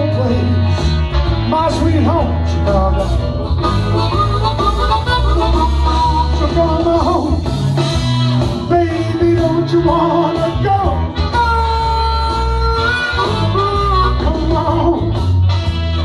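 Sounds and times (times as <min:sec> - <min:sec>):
backing track guitar bass drums: 0:00.0 - 0:16.0
blues harmonica: 0:00.0 - 0:16.0.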